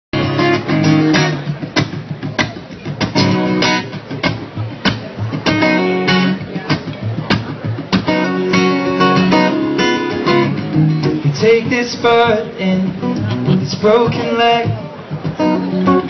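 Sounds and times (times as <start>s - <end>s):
acoustic guitar strumming: 0.2s - 16.0s.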